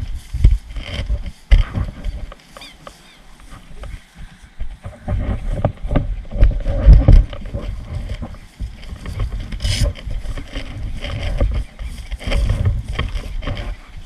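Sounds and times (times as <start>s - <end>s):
footsteps through dense brush: 0.0s - 14.0s
rumbling on microphone: 0.0s - 14.0s.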